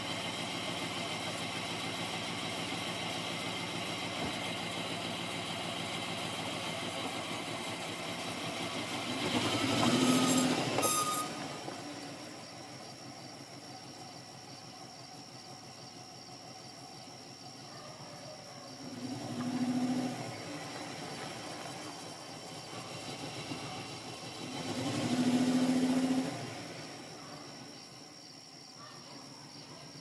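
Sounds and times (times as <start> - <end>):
car engine running: 0.0 - 28.2.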